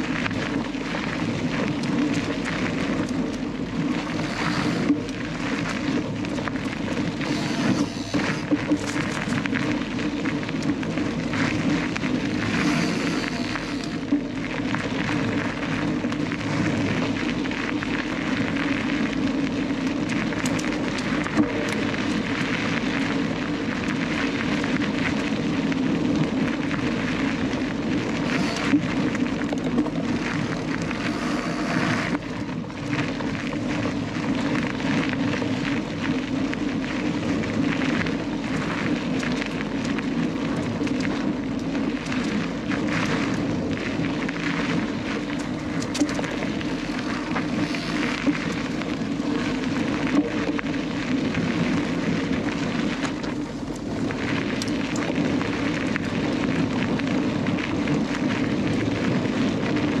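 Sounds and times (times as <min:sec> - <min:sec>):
wind on microphone: 0:00.0 - 1:00.0.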